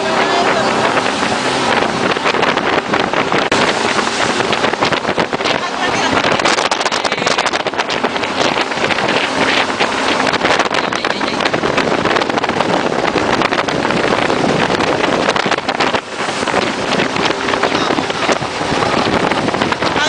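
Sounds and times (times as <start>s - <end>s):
boat engine: 0.0s - 20.0s
rushing water: 0.0s - 20.0s
wind buffeting microphone: 0.0s - 20.0s.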